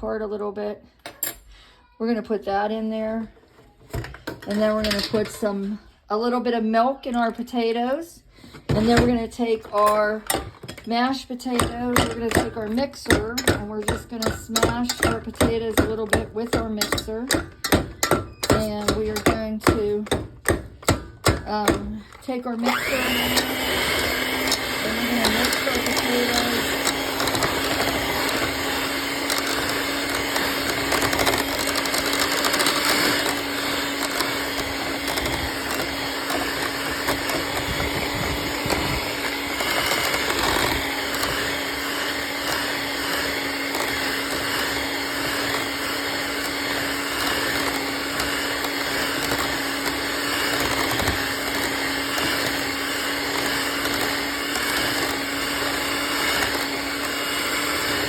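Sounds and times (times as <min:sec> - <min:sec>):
electric hand mixer running: 0:08.6 - 0:58.0.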